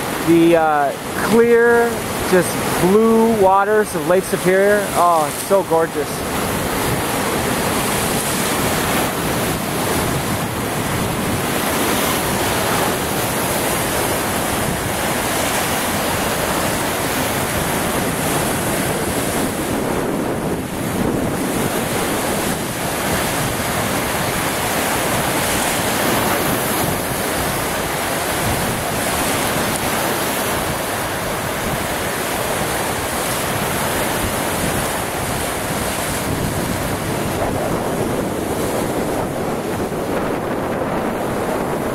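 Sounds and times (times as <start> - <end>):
waves splashing on rocks: 0.0 - 41.9
wind buffeting microphone: 0.0 - 41.9.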